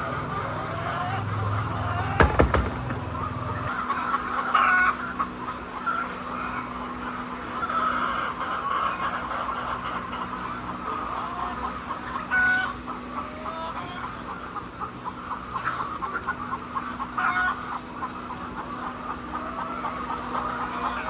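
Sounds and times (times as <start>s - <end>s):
hens clucking: 0.0s - 21.0s
hens squawking: 0.3s - 21.0s.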